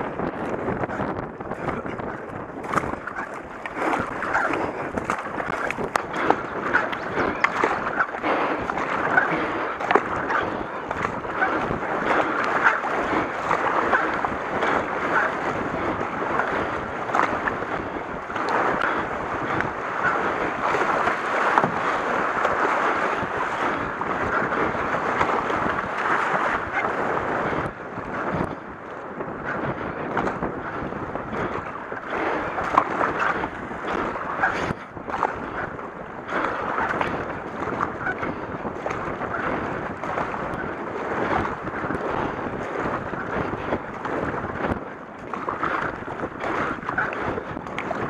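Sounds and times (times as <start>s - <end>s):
kayak paddle splashes: 0.0s - 48.0s
wind on microphone: 0.0s - 48.0s
river water rushing: 1.6s - 29.2s, 30.9s - 48.0s.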